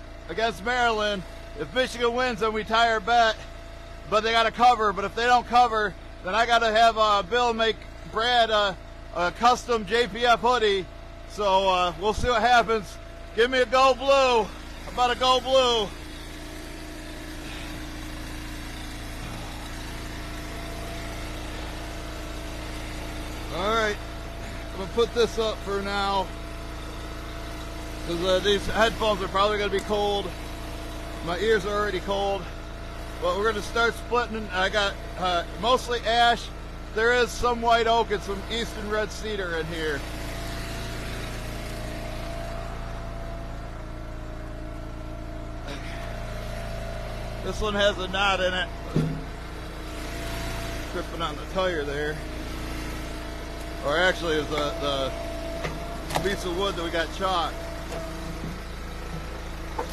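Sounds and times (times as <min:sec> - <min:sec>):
gas engine idling: 0:00.0 - 0:59.9.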